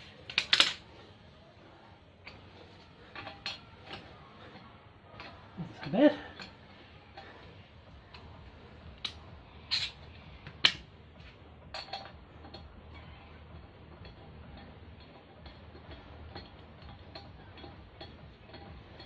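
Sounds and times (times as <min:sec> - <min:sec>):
metal clinks and knocks: 0:00.0 - 0:01.0, 0:02.2 - 0:19.0.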